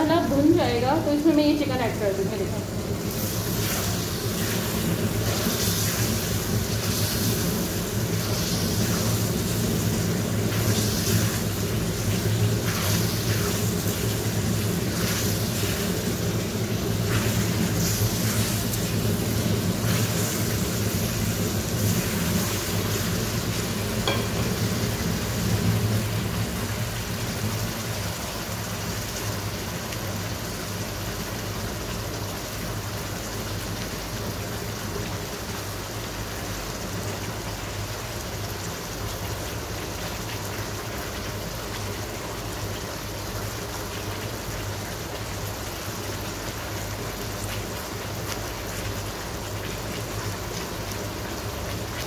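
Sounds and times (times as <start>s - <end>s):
chicken sizzling in wok: 0.0s - 52.0s.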